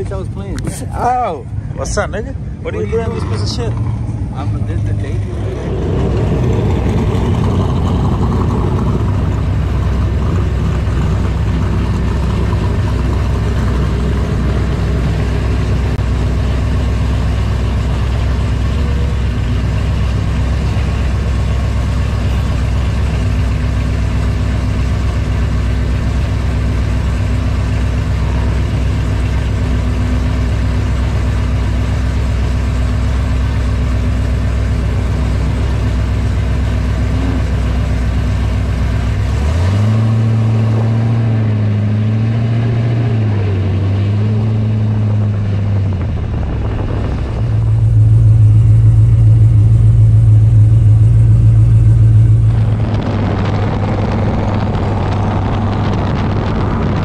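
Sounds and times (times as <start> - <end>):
car engine revving: 0.0 - 57.0
car engines idling: 0.0 - 57.0.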